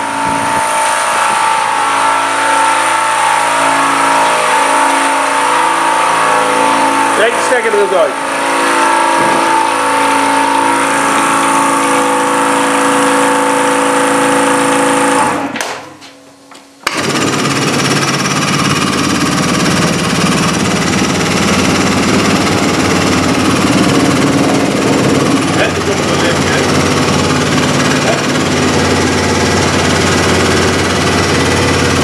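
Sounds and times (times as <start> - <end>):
power tool running: 0.0 - 16.0, 16.8 - 32.0.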